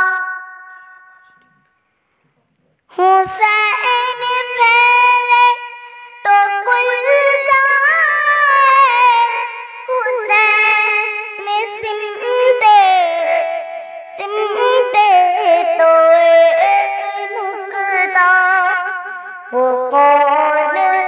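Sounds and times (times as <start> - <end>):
girl singing in a high voice: 0.0 - 1.3, 2.9 - 21.0.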